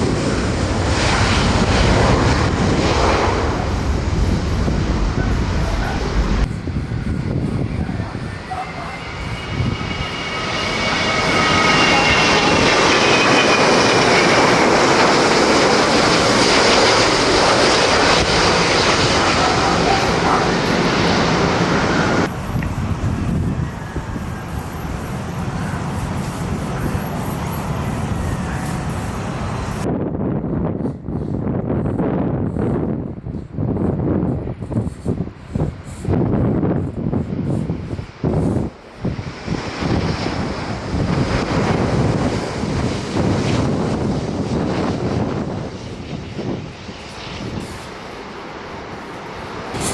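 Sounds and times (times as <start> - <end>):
distant jet noise: 0.0 - 30.0, 30.7 - 49.9
jet engine noise with whine: 0.0 - 49.9.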